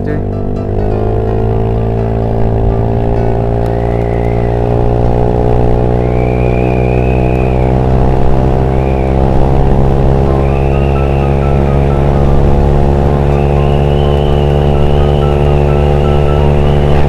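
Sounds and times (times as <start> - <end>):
high whining tones: 0.0 - 17.0
scooter engine revving high: 0.0 - 17.0.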